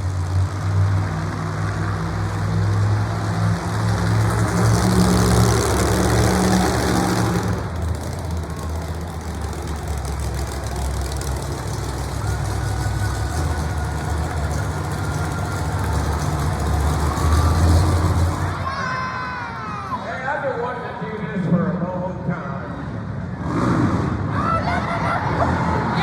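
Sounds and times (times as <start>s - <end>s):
truck engine rumbling and revving: 0.0s - 18.7s, 22.1s - 26.0s.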